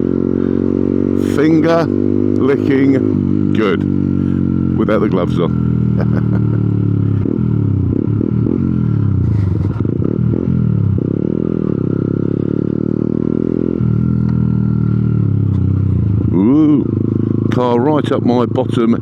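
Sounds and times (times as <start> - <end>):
small motorcycle engine: 0.0 - 19.0.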